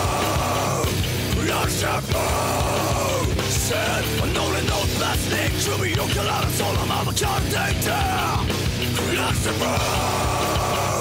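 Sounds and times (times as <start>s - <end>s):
heavy metal music: 0.0s - 11.0s.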